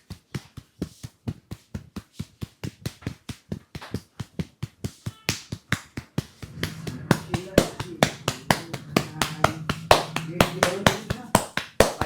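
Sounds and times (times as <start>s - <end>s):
hands slapping in massage strokes: 0.0s - 12.0s.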